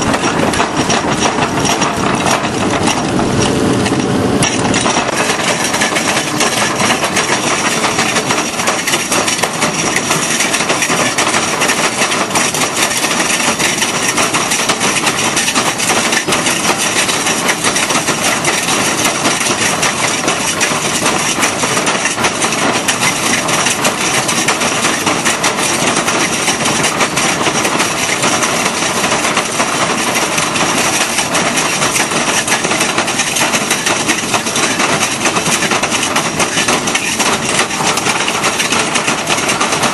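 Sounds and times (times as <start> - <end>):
drum cutter grinding rock: 0.0 - 39.9.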